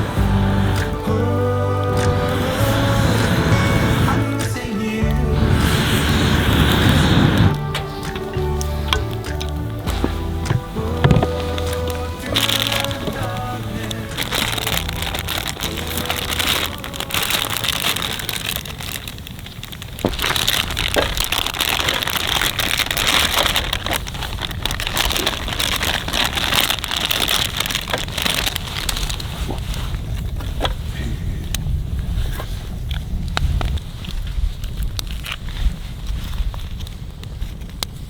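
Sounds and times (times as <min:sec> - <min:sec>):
crunching and crackling: 0:00.0 - 0:38.0.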